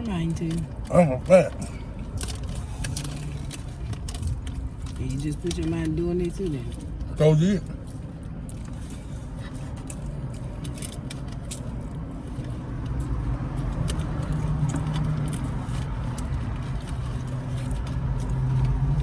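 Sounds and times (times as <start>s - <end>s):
motor vehicle rumble: 0.0s - 19.0s.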